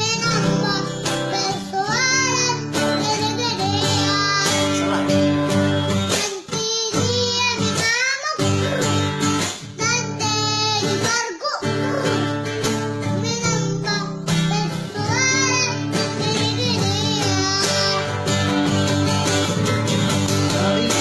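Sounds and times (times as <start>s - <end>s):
child singing: 0.0s - 18.5s
instrumental backing music: 0.0s - 21.0s.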